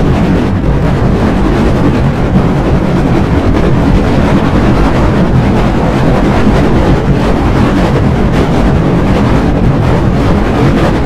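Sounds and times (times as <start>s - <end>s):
distorted steady roar: 0.0s - 11.0s.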